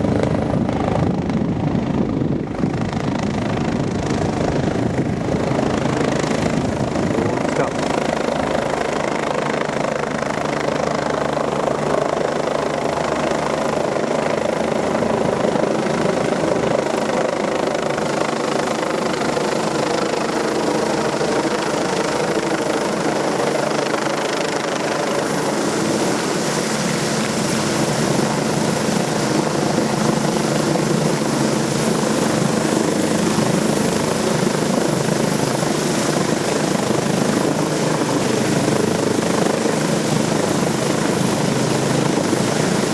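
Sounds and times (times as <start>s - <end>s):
helicopter rotor wind rushing: 0.0s - 42.9s
high helicopter whine: 0.0s - 42.9s.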